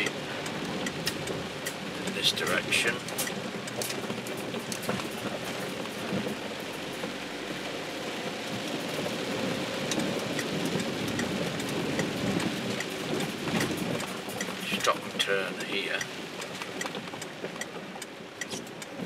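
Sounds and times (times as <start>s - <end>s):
car engine: 0.0s - 19.0s
rain on a car: 0.0s - 19.0s.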